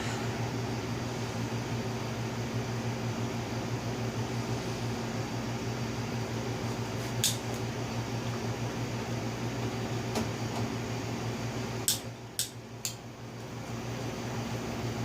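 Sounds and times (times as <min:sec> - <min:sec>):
low electric hum: 0:00.0 - 0:15.0.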